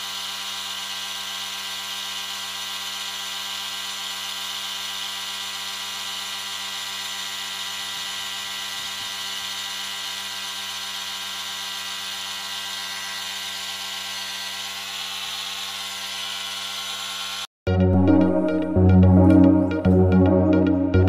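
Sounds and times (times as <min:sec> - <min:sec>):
air compressor hum and hiss: 0:00.0 - 0:17.5.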